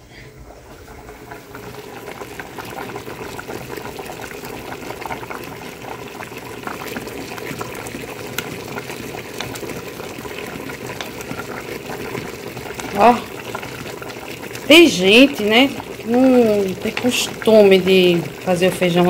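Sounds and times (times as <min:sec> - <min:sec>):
pot bubbling and hissing: 0:00.0 - 0:19.0
small crackles and pops: 0:01.3 - 0:19.0.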